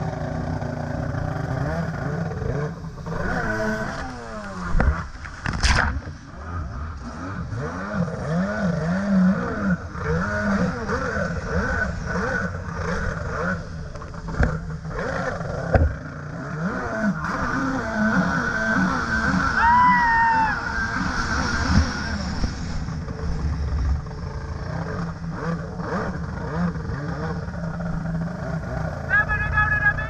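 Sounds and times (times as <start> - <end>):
jet ski engine revving: 0.0 - 30.0.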